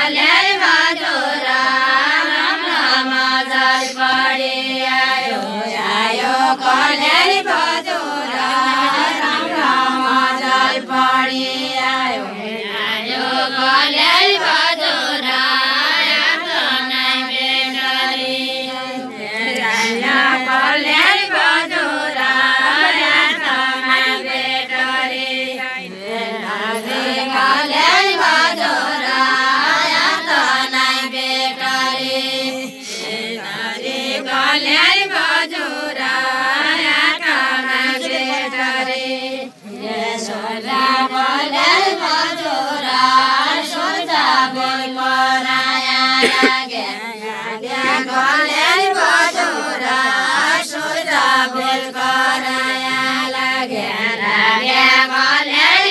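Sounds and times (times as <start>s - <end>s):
women singing unaccompanied: 0.0s - 55.9s.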